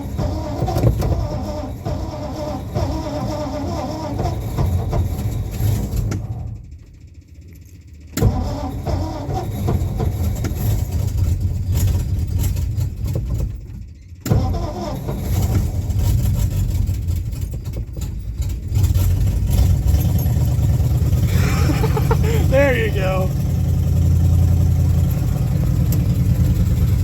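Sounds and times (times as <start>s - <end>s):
old car engine starting and running: 0.0s - 27.0s.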